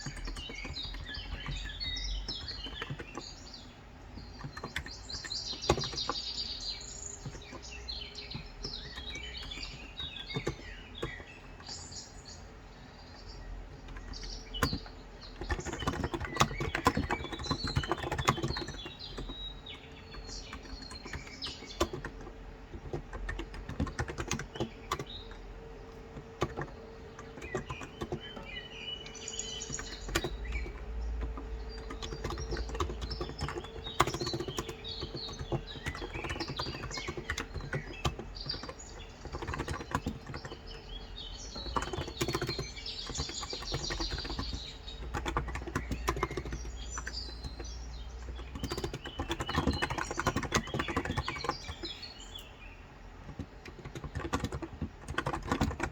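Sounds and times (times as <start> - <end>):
birds chirping: 0.0 - 55.9
fast keyboard typing: 0.0 - 55.9.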